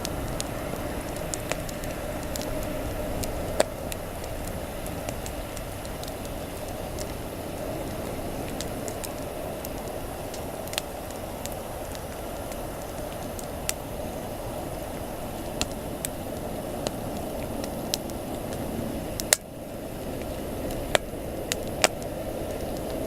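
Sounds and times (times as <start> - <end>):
campfire pops and snaps: 0.0 - 23.0
flames rushing: 0.0 - 23.0.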